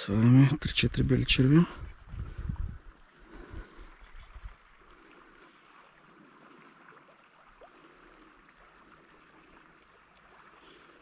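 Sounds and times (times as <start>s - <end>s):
river water flowing: 1.4s - 11.0s.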